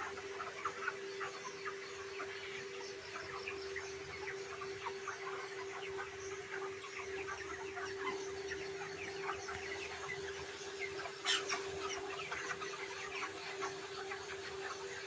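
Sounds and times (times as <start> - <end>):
chickens clucking and chirping: 0.0 - 15.0
steady hum: 0.0 - 15.0.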